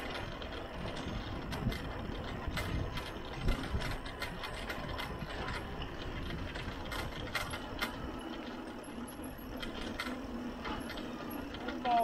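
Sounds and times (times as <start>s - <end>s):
bike clicking and rattling: 0.0s - 12.0s
bike tyres rumbling on concrete: 0.0s - 12.0s.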